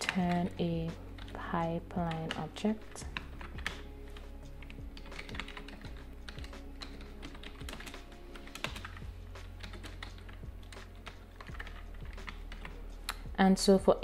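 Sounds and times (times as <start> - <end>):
computer keyboard typing: 0.0 - 13.2.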